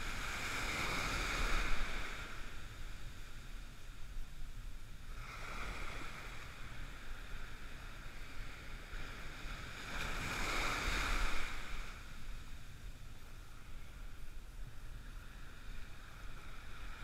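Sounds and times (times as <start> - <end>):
ocean surf washing: 0.0 - 17.0
wind rumbling on microphone: 0.0 - 17.0.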